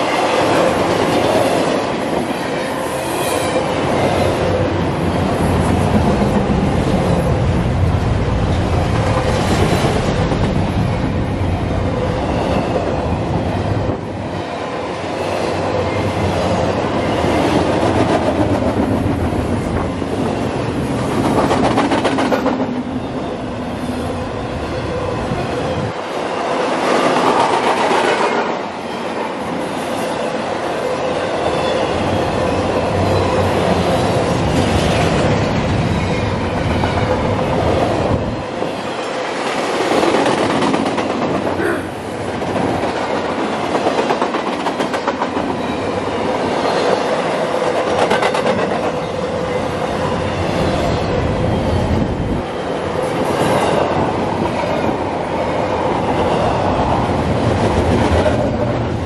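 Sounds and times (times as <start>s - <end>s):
train wheels running on rails: 0.0s - 59.0s.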